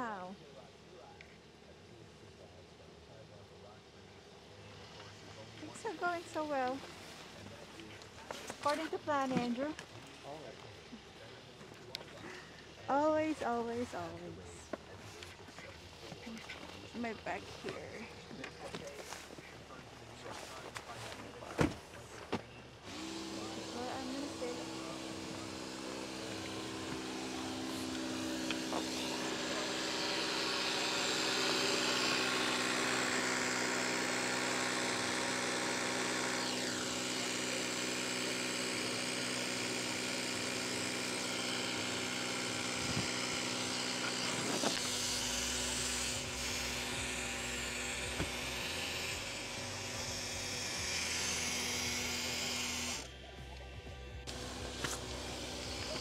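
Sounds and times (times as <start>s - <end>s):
electric air compressor running: 0.0s - 56.0s.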